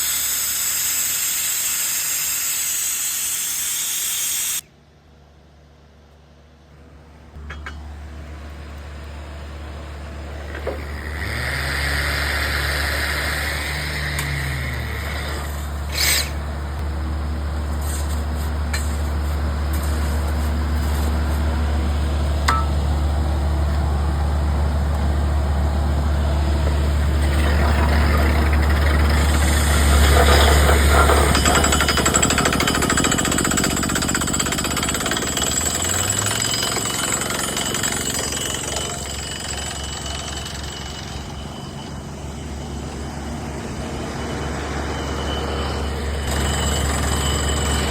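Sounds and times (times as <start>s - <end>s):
drill rig engine humming: 0.0s - 4.6s, 7.4s - 47.9s.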